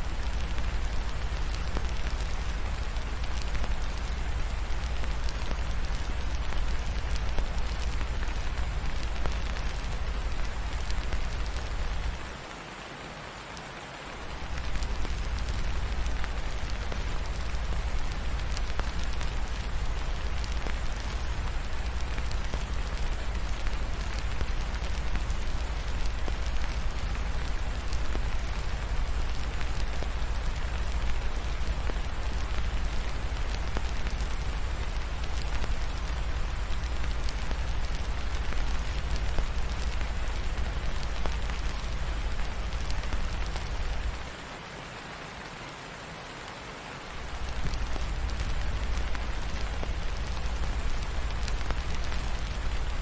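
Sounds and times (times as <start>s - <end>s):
fireplace crackling: 0.0s - 12.5s, 14.0s - 44.4s, 47.0s - 53.0s
steady rainfall: 0.0s - 53.0s.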